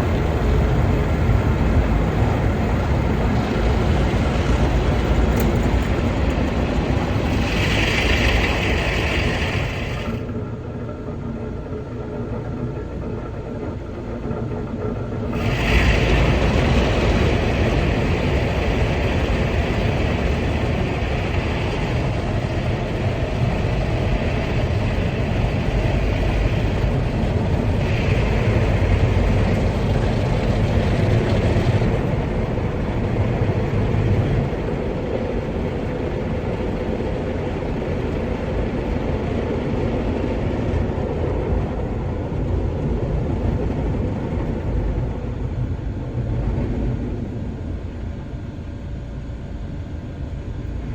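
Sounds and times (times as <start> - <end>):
car wash machinery rushing: 0.0 - 50.9.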